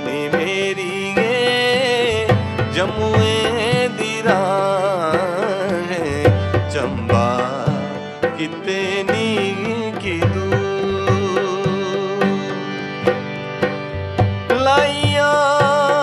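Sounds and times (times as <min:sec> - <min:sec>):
man singing folk song: 0:00.0 - 0:12.9, 0:14.4 - 0:16.0
electronic keyboard: 0:00.0 - 0:16.0
harmonium: 0:00.0 - 0:16.0
percussion beat: 0:00.0 - 0:16.0.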